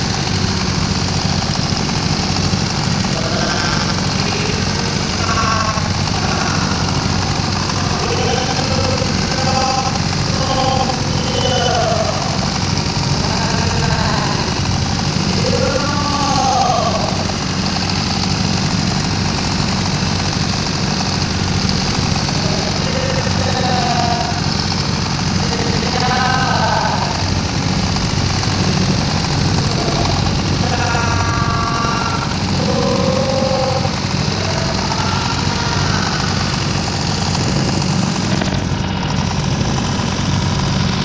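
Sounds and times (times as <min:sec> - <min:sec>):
boat engine droning: 0:00.0 - 0:41.0
voices: 0:01.8 - 0:18.0, 0:21.1 - 0:38.6.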